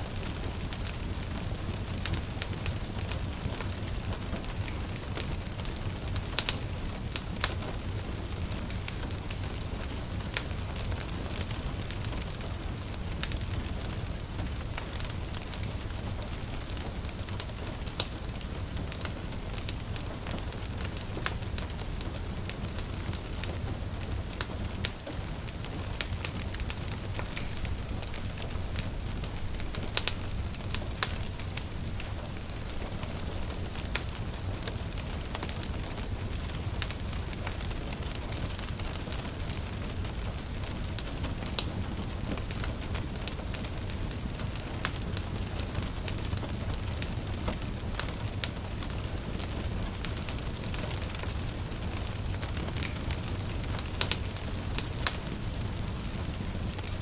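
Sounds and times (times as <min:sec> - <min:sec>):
rain pattering: 0:00.0 - 0:57.0
wood fire crackling: 0:00.0 - 0:57.0.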